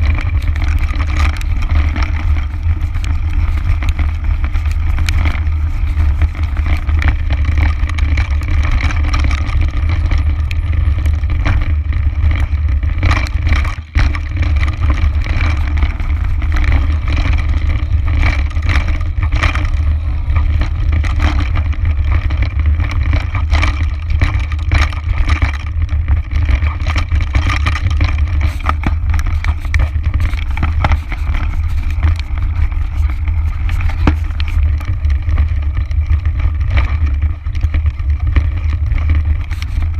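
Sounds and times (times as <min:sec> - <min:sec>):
bike rattles and knocks: 0:00.0 - 0:39.9
wind and frame vibration rumble: 0:00.0 - 0:39.9.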